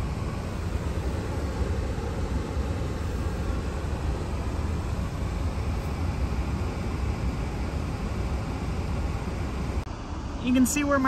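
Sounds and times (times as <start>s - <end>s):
low engine rumble: 0.0s - 11.0s
road noise: 0.0s - 11.0s.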